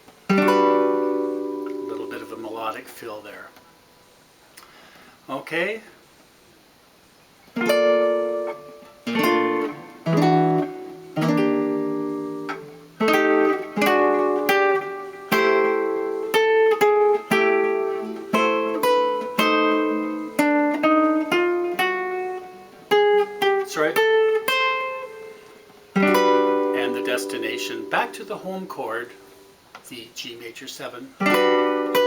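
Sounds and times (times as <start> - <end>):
solo guitar chord-melody: 0.3 - 3.8, 7.6 - 29.6, 31.2 - 32.0.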